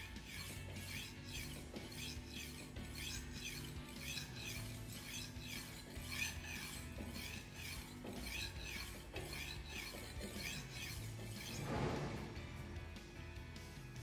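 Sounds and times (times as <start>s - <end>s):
knife scraping on sharpener: 0.0s - 12.1s.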